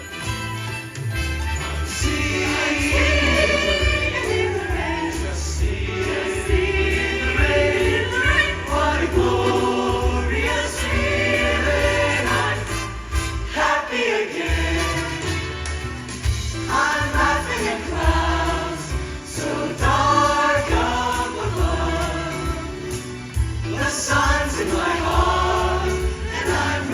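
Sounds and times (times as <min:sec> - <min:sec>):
instrumental accompaniment: 0:00.0 - 0:26.9
steady bass line: 0:01.5 - 0:13.5, 0:14.5 - 0:26.9
choir singing: 0:01.9 - 0:15.8, 0:16.5 - 0:26.9.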